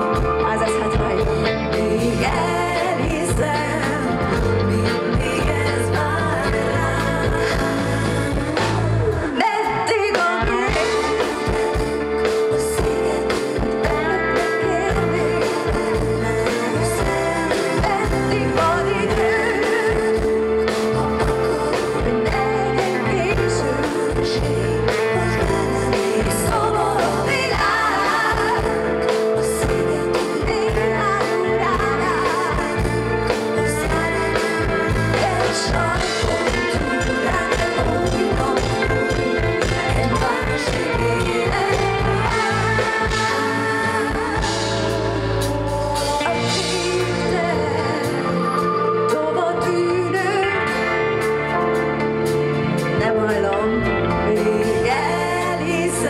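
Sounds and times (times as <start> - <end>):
woman singing: 0.0 - 51.6, 52.8 - 56.0
bass guitar: 0.0 - 56.0
drums: 0.0 - 56.0
guitar: 0.0 - 56.0.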